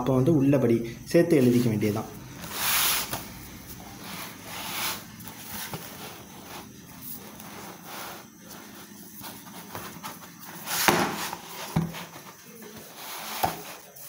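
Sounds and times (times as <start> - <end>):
paper rustling: 1.4 - 14.0.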